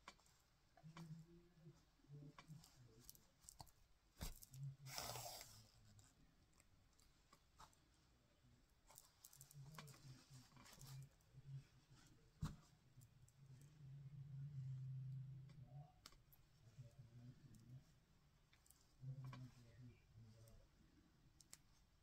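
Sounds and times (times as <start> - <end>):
needle and thread through cloth: 0.0 - 22.0.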